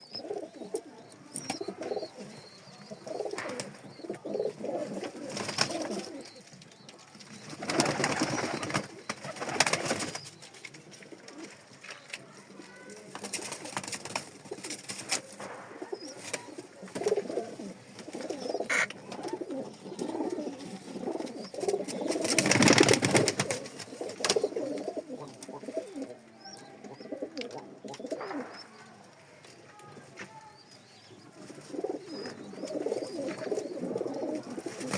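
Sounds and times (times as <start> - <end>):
pigeons cooing: 0.0 - 11.7, 12.4 - 29.1, 30.8 - 34.9.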